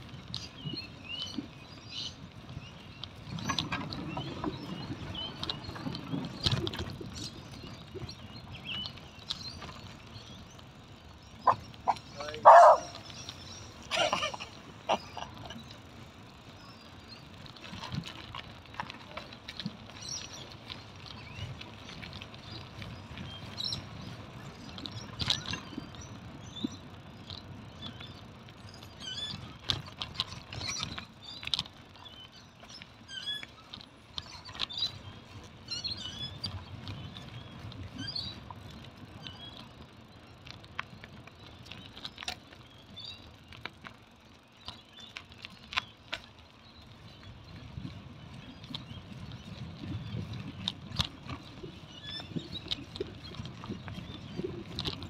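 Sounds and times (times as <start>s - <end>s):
bicycle tyres rumbling on asphalt: 0.0s - 55.0s
bike clicks and rattles: 0.0s - 55.0s
wind: 0.0s - 55.0s
birds chirping: 0.1s - 55.0s.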